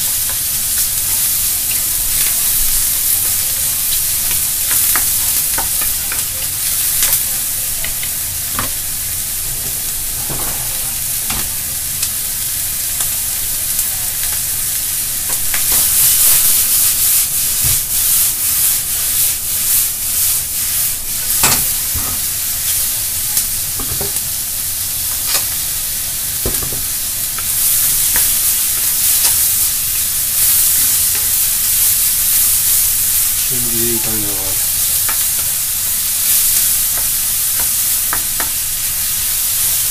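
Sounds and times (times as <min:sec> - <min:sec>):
onions and meat sizzling in wok: 0:00.0 - 0:39.9.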